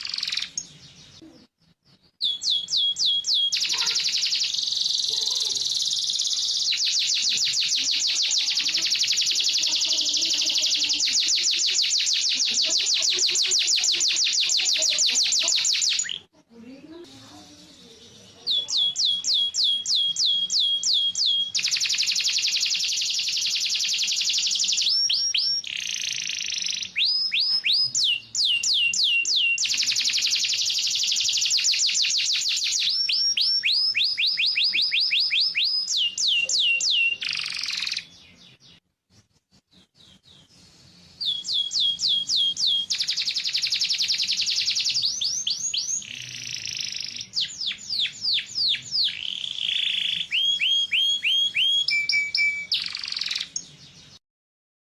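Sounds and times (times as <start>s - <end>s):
canary singing: 0.0s - 38.8s, 39.7s - 54.2s.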